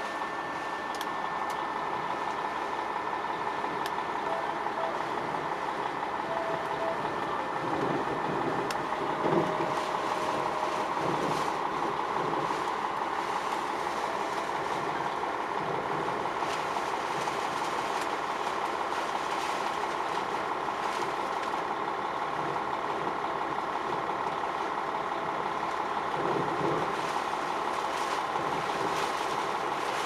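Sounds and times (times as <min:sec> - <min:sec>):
wind and rain on truck cab: 0:00.0 - 0:30.0.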